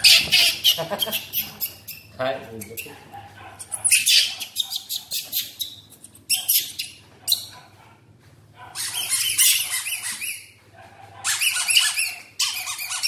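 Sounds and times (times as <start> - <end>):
rubber duck toys squeaking: 0.0 - 3.0, 3.6 - 7.5, 8.8 - 10.6, 11.2 - 13.0.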